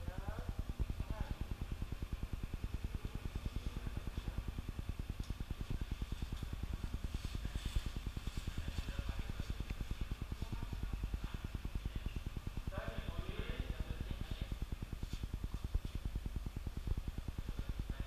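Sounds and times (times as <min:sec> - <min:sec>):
low mechanical throb of motor: 0:00.0 - 0:18.0.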